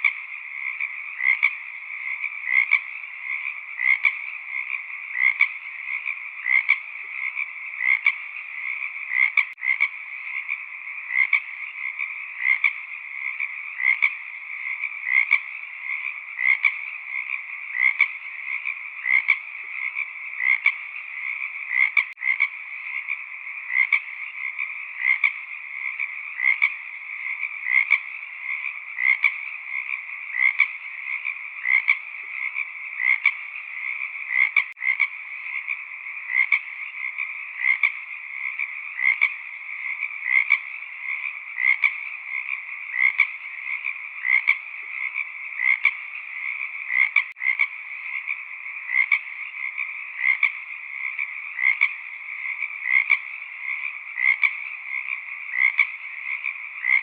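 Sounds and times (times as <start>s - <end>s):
close frog call: 0.0s - 57.0s
frogs chorus: 0.0s - 57.0s.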